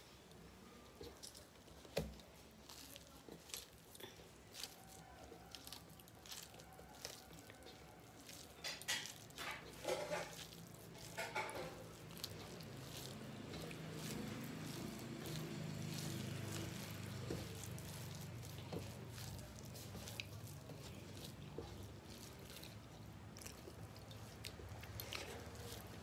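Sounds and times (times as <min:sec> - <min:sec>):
soft eating sounds: 0:00.0 - 0:26.0.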